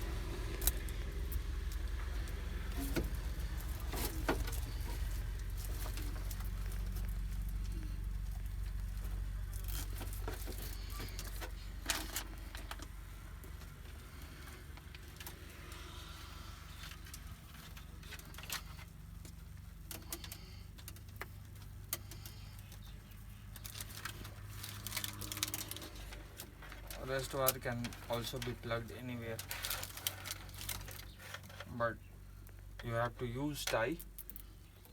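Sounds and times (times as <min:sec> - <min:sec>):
rustling and scraping of parts: 0:00.0 - 0:34.9
steady low hum: 0:00.0 - 0:34.9.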